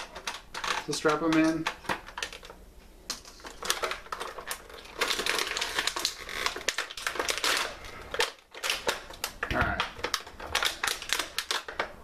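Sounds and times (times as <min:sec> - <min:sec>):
plastic blister tray crackling: 0:00.0 - 0:12.0.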